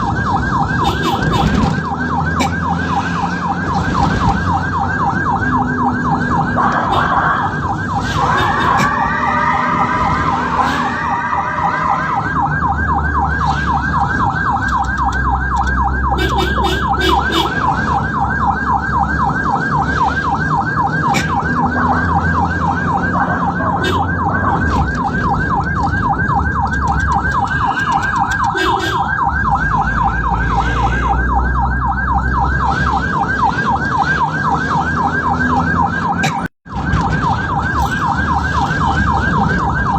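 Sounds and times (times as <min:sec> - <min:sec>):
ambulance siren yelping: 0:00.0 - 0:39.9
engine and road rumble: 0:00.0 - 0:39.9
gliding siren tones: 0:00.0 - 0:39.9.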